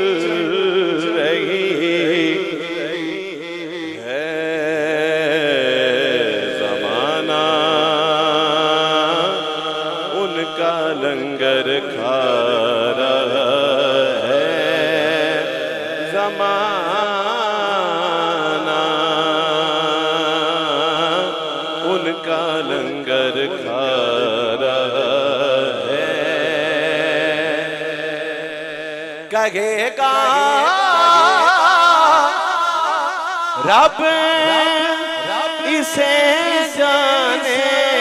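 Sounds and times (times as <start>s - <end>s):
man chanting through pa system: 0.0s - 38.0s.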